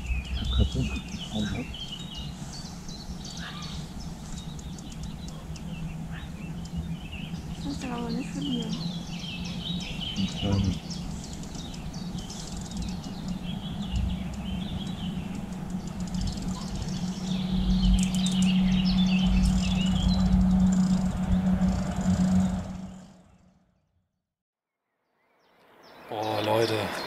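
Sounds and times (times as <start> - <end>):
songbirds chirping: 0.0 - 23.3, 25.0 - 27.0
low rumbling handling noise: 0.0 - 23.5
steady low hum: 0.0 - 23.6.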